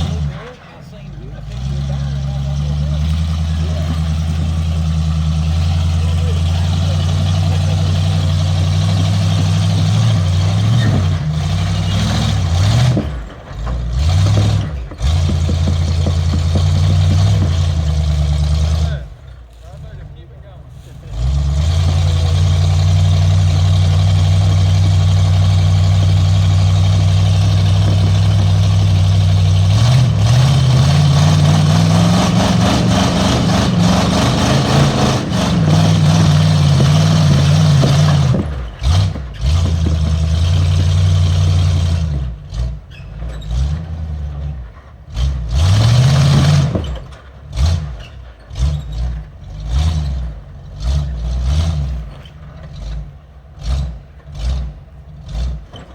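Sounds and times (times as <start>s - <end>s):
off-road vehicle engine revving: 0.0s - 55.9s.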